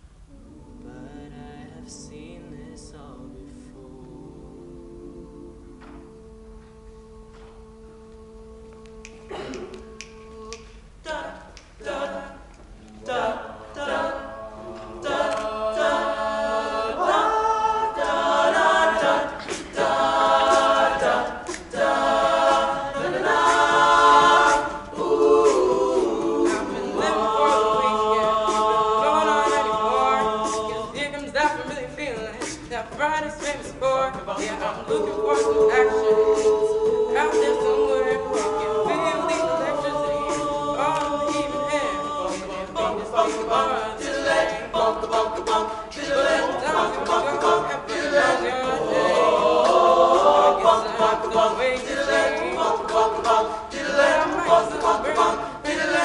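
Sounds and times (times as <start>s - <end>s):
male a cappella group singing: 0.3s - 56.0s.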